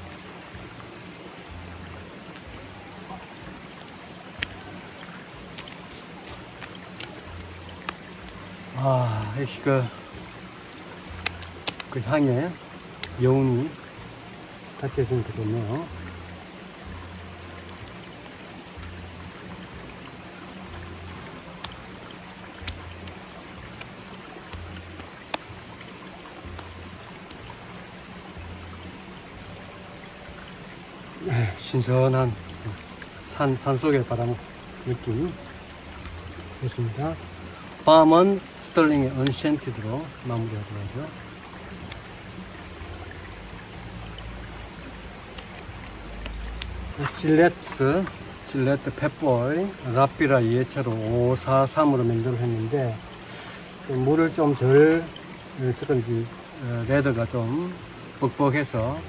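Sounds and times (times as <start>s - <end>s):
stream water over rocks: 0.0s - 59.0s.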